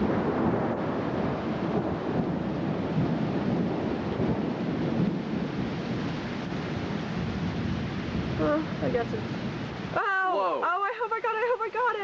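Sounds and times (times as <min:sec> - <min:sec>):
rolling thunder: 0:00.0 - 0:10.0
heavy rain pouring: 0:00.0 - 0:12.0
wind gusting on microphone: 0:00.0 - 0:12.0.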